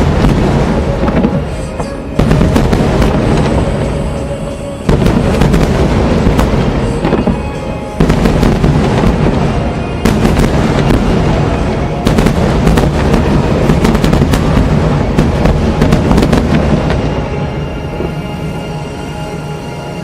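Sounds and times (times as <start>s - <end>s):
fireworks bangs and crackle: 0.0s - 18.9s
music: 0.0s - 20.0s.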